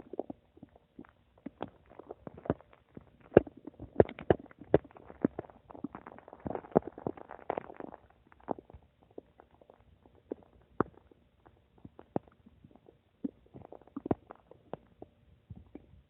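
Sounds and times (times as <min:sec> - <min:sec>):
stomach gurgling: 0:00.0 - 0:16.0.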